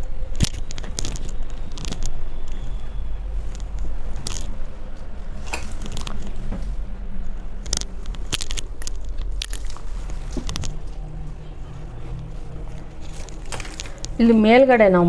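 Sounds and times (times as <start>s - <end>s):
steady low hum: 0.0s - 15.0s
fabric rustling: 0.5s - 14.5s.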